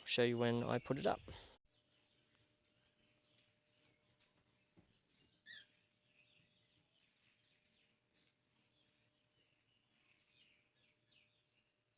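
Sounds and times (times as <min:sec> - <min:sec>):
faint birds chirping: 0:00.0 - 0:11.9.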